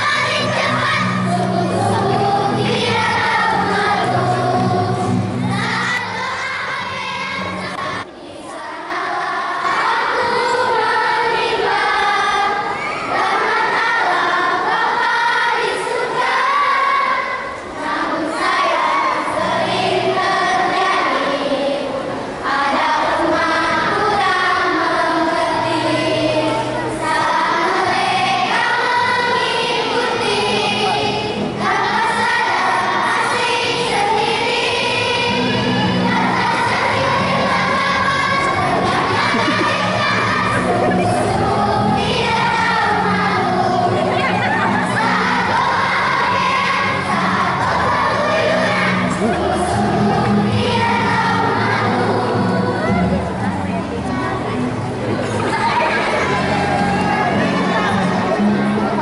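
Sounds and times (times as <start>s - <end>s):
children singing together: 0.0s - 59.0s.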